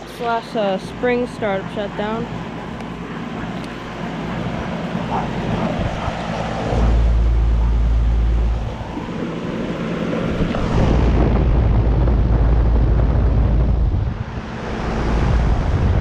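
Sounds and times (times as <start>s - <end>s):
compressor hum: 0.0s - 16.0s
condenser fan rushing: 0.0s - 16.0s
wind buffeting microphone: 2.0s - 16.0s.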